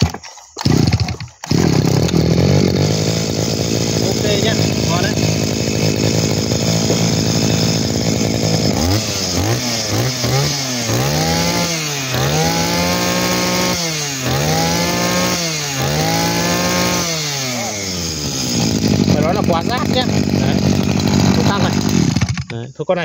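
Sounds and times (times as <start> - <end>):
brush cutter engine revving: 0.0 - 22.6.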